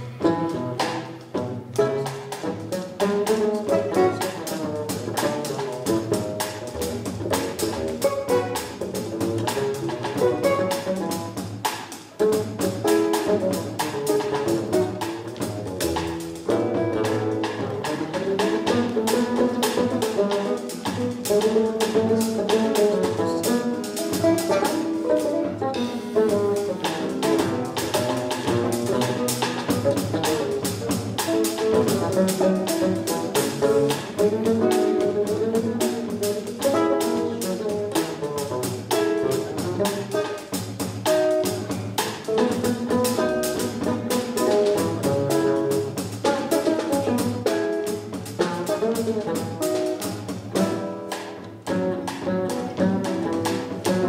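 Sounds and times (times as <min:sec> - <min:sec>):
drum kit samba groove: 0:00.0 - 0:54.0
nylon-string guitar: 0:00.0 - 0:54.0
plucked double bass: 0:00.0 - 0:54.0.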